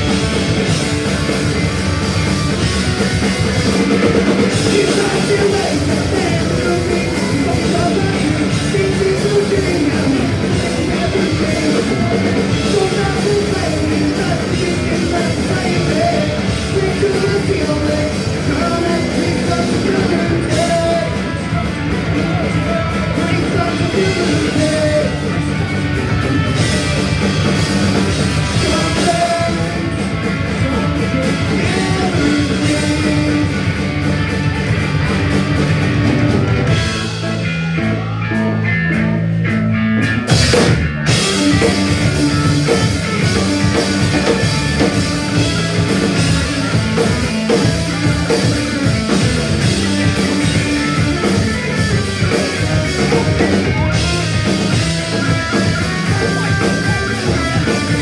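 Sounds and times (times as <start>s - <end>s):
person singing: 0.0s - 34.1s, 36.0s - 58.0s
punk rock band playing: 0.0s - 58.0s.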